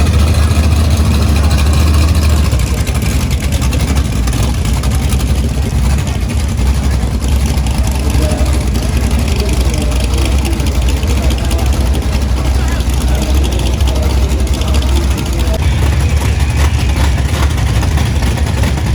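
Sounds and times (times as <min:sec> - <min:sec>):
car engines rumbling: 0:00.0 - 0:18.9.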